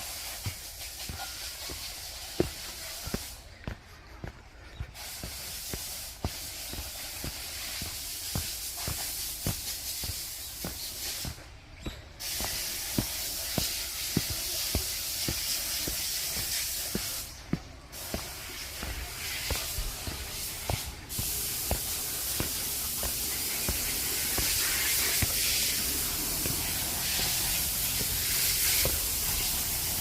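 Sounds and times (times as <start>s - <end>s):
footsteps walking: 0.0s - 30.0s
steady hiss: 0.0s - 30.0s.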